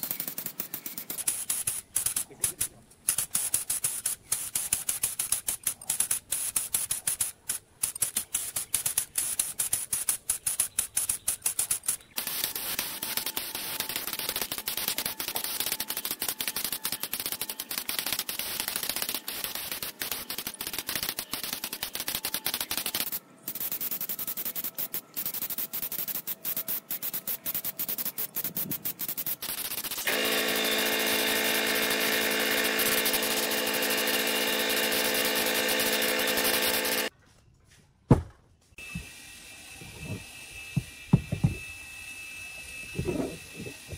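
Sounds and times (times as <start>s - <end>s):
paint spray gun hissing: 0.0s - 37.1s.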